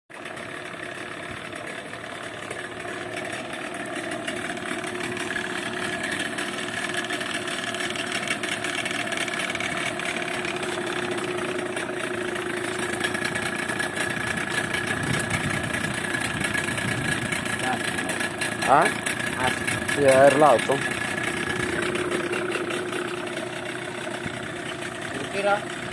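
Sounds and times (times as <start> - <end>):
speedboat engine idling: 0.1 - 25.9.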